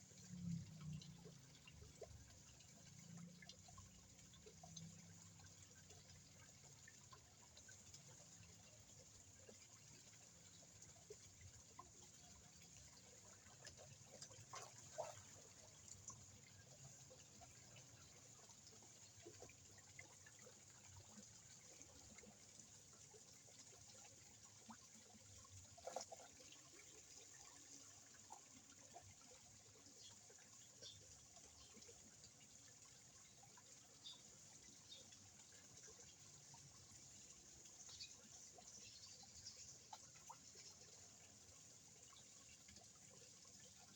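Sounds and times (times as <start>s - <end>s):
water drips and splashes: 0.0s - 43.9s
water trickling: 0.0s - 43.9s.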